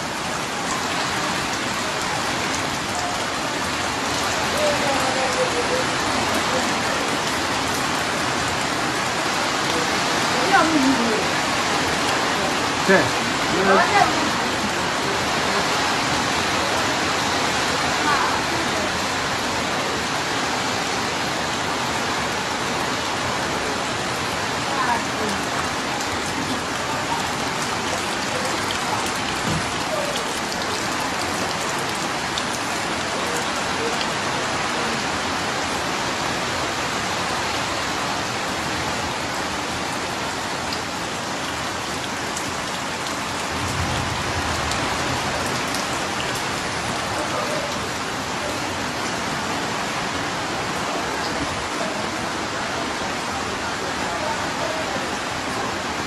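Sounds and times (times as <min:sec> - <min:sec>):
rain drumming on roofing sheets: 0:00.0 - 0:56.0.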